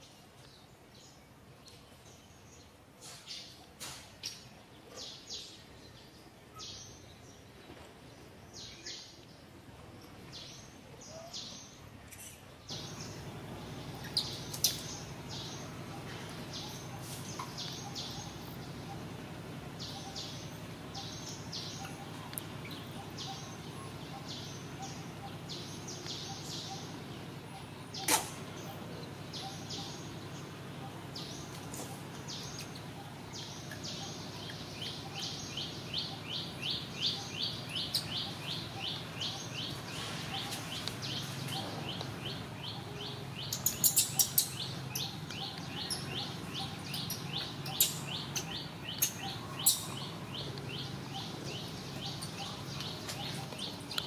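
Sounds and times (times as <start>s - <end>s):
outdoor background hum: 0.0s - 54.0s
small birds chirping: 0.0s - 54.0s.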